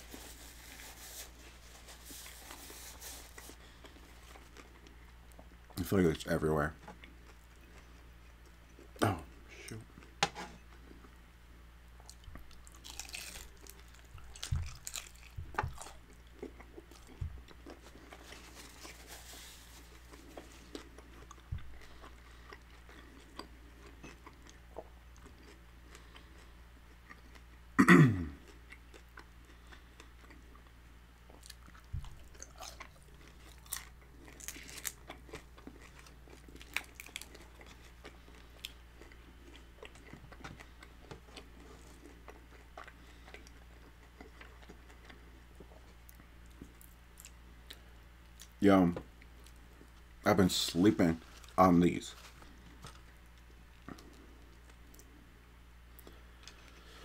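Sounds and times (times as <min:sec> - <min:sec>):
chewing and crunching crispy food: 0:00.0 - 0:11.2, 0:12.0 - 0:48.6, 0:49.2 - 0:57.0.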